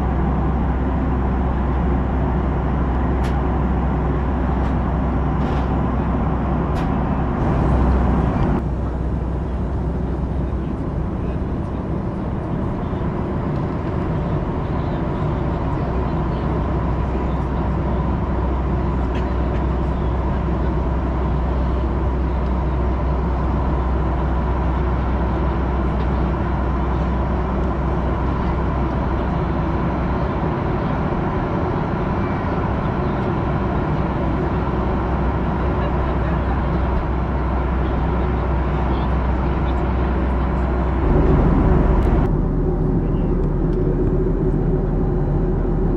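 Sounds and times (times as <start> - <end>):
jet engine drone in cabin: 0.0 - 45.9.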